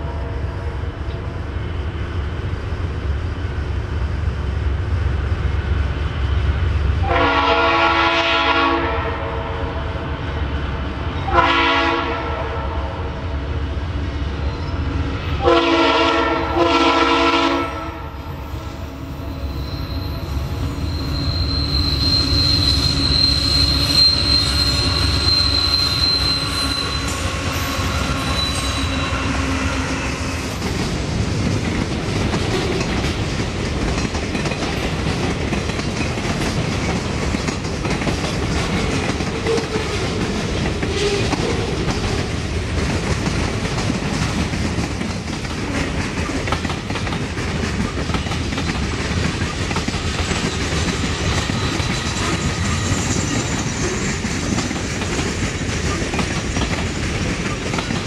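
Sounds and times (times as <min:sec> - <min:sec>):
diesel locomotive engine drone: 0:00.0 - 0:58.0
freight cars rumbling on rails: 0:00.0 - 0:58.0.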